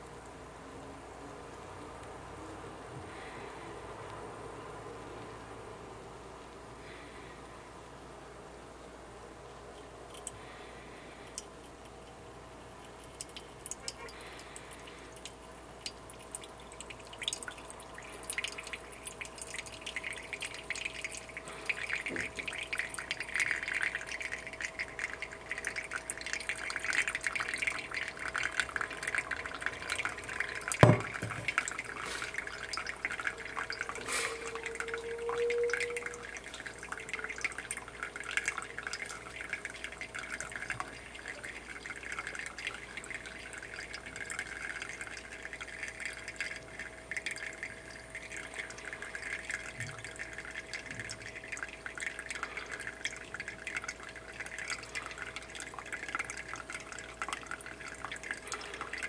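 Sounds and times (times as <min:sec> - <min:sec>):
water trickling into filter: 0:09.7 - 0:59.0.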